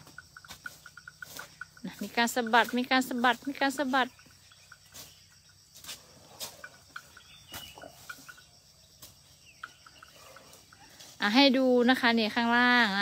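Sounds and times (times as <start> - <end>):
faint insect-like chirps: 0.0 - 13.0.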